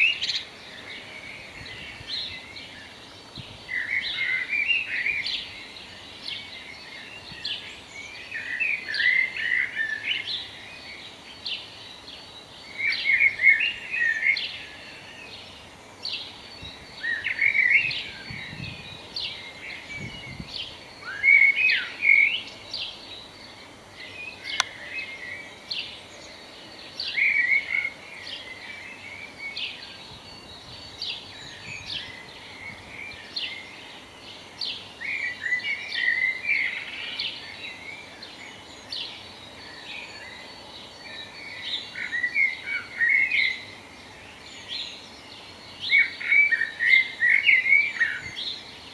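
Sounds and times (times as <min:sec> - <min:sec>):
songbird warbling: 0:00.0 - 0:48.7.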